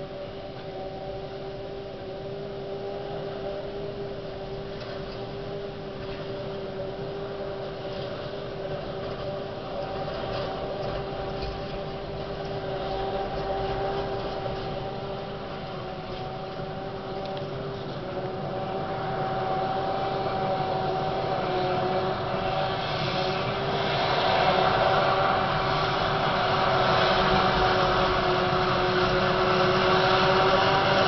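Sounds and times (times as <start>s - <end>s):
forage harvester engine whine: 0.0s - 31.0s.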